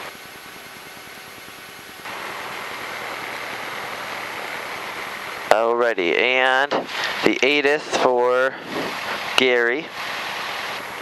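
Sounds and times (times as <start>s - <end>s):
aircraft engine idling through headset: 0.0s - 11.0s.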